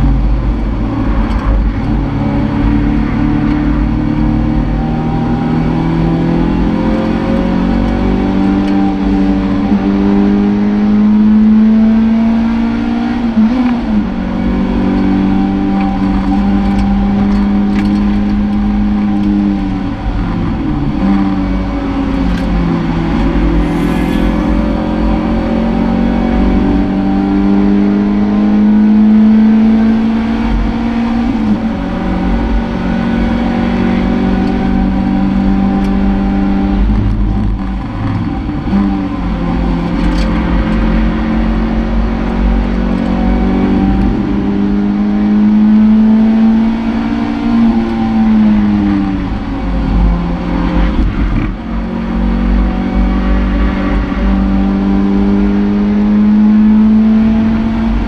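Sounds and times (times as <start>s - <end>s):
road and wind rumble: 0.0s - 58.0s.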